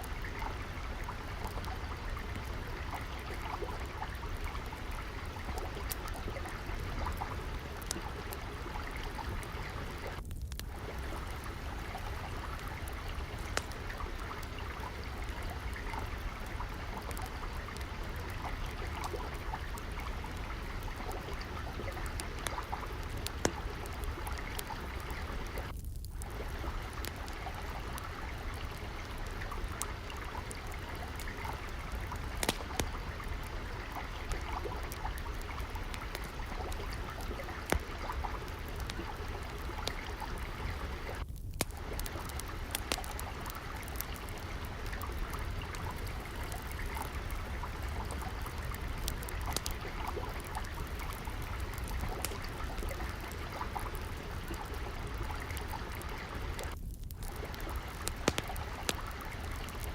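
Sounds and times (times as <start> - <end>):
trickling water: 0.0 - 59.9
wood fire crackling: 0.0 - 59.9.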